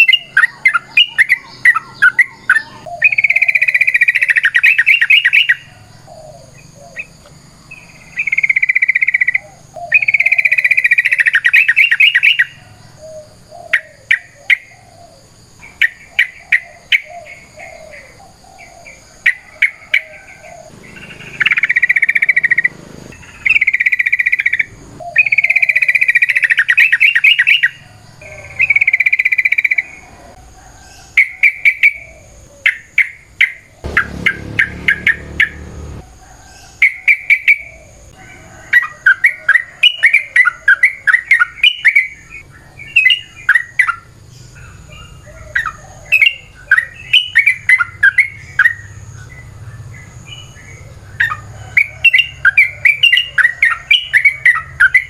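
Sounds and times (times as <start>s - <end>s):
bulbul singing: 0.0s - 30.3s, 31.0s - 36.1s, 39.1s - 55.0s.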